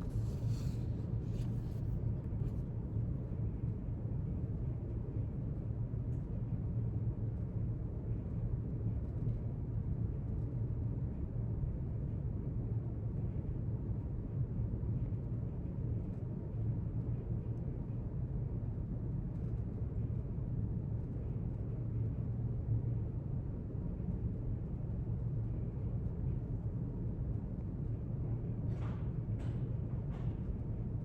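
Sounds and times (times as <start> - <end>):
low room rumble: 0.0 - 31.0.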